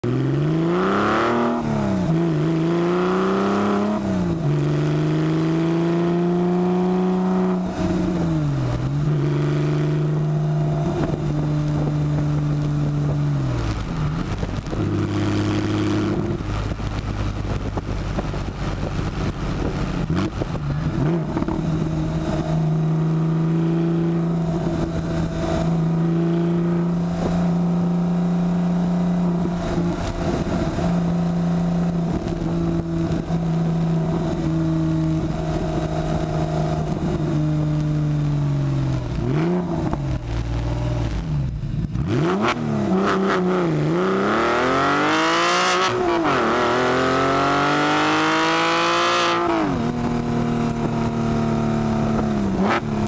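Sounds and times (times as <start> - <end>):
loud car engine accelerating: 0.0 - 53.0.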